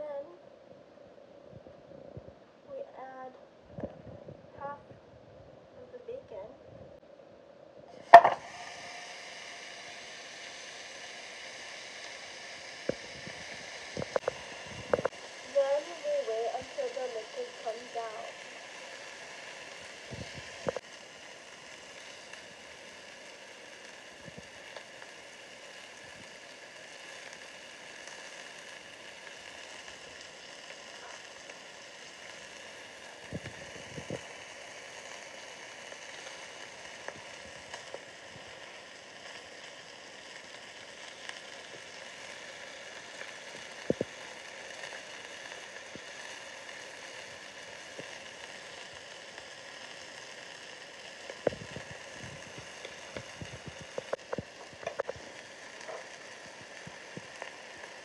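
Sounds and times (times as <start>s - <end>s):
bacon sizzling in a pan: 7.9s - 58.0s.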